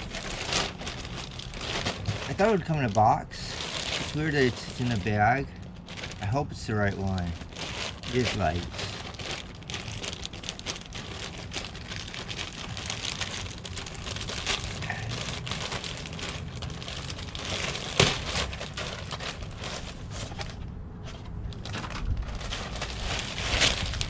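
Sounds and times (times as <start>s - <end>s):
packaging bag crinkling: 0.0s - 20.6s, 21.3s - 24.0s.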